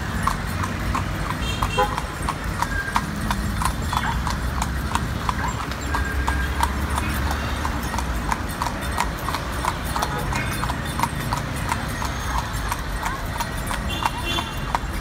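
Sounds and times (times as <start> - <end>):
city traffic rumble: 0.0 - 15.0
hooves clip-clopping on asphalt: 0.0 - 15.0.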